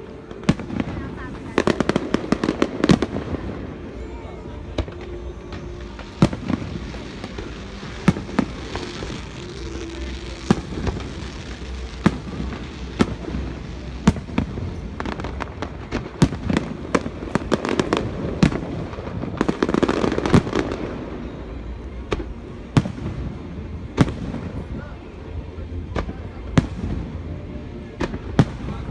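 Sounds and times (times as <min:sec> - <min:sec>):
fireworks bangs: 0:00.0 - 0:25.0, 0:25.9 - 0:27.3
fireworks crackle: 0:00.0 - 0:28.9.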